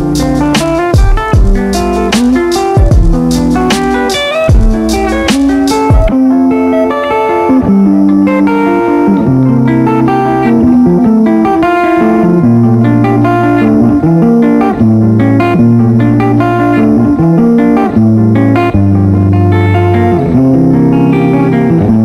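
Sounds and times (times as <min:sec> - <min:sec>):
instrumental guitar and bass music: 0:00.0 - 0:22.0.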